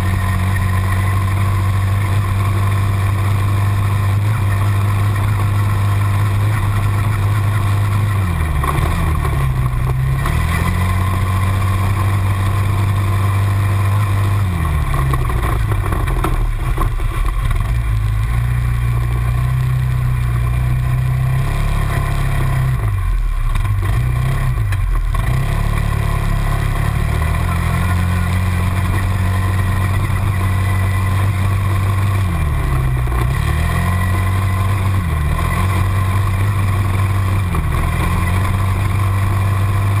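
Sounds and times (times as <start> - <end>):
quad bike engines revving: 0.0 - 40.0.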